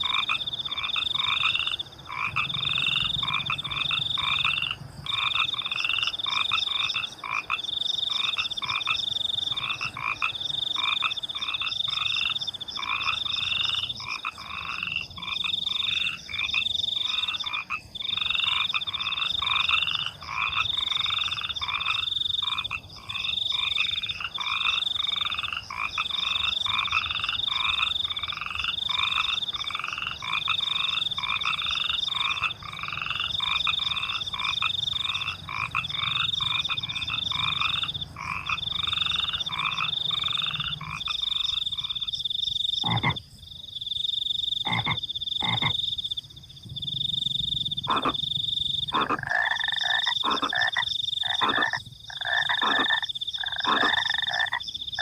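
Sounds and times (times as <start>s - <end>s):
crickets trilling: 0.0s - 55.0s
frogs croaking: 0.0s - 55.0s.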